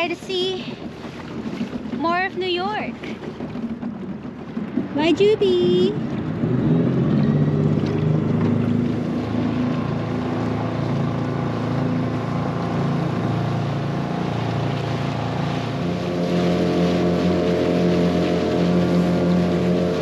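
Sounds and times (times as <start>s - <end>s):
small outboard motor running: 0.0s - 20.0s.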